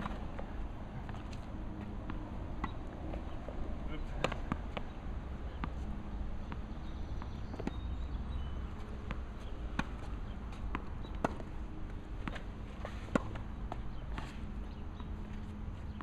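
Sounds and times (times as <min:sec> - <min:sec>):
tennis ball hits and bounces: 0:00.0 - 0:16.0.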